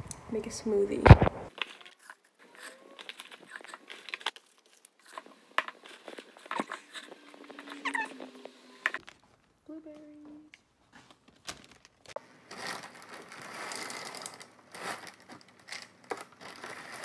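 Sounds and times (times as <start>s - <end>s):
leaves and plastic rustling: 0.8s - 9.5s, 11.1s - 17.0s.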